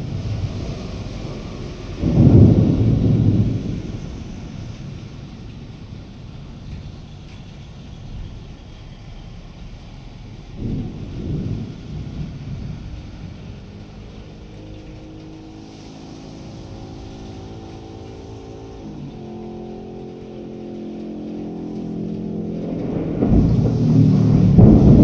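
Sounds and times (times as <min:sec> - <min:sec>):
low rumble of thunder: 0:00.0 - 0:25.0
vehicle engine running: 0:00.0 - 0:25.0.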